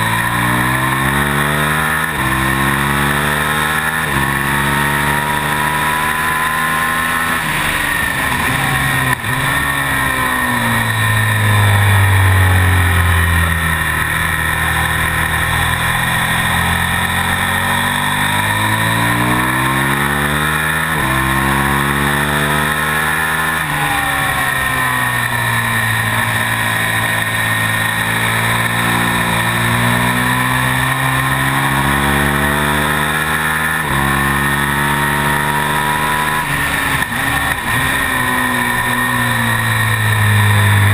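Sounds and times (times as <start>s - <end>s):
gear changes: 0.0s - 40.9s
motorcycle engine revving: 0.0s - 40.9s.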